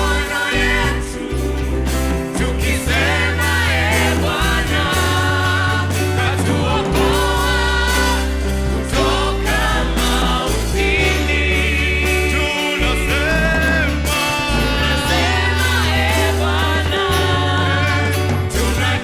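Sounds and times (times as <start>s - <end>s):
group of voices singing: 0.0s - 19.0s
held bass notes: 0.0s - 19.0s.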